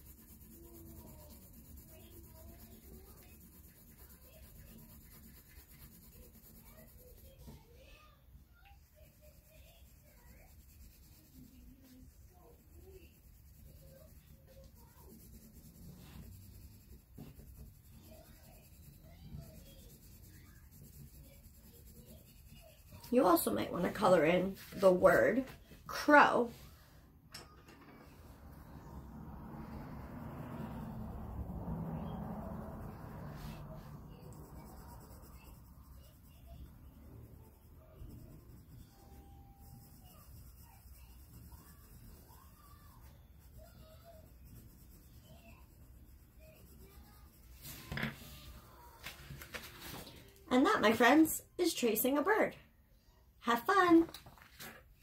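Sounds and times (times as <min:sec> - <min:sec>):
coloring tool rubbing on paper: 0:00.0 - 0:27.0, 0:28.2 - 0:52.5
low room hum: 0:00.0 - 0:55.0.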